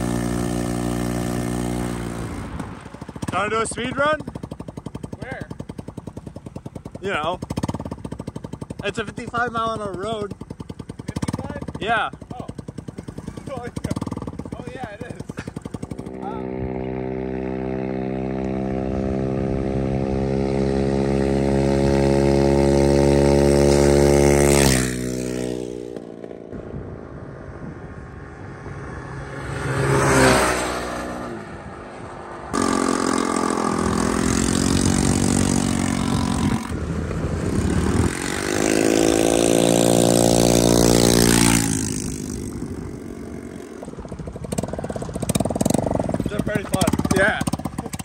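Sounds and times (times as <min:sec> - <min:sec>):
scooter passing close: 0:00.0 - 0:11.6, 0:12.5 - 0:48.0
scooter engine drone: 0:00.0 - 0:48.0.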